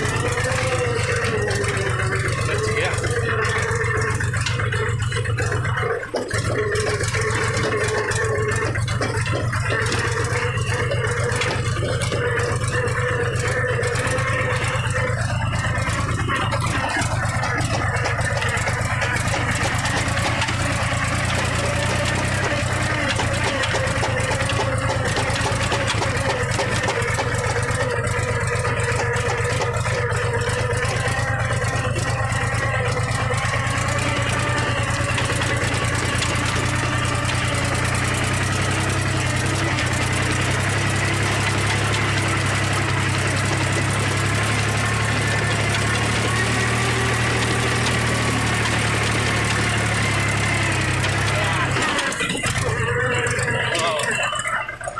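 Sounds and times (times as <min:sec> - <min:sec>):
tractor diesel engine droning: 0:00.0 - 0:54.9.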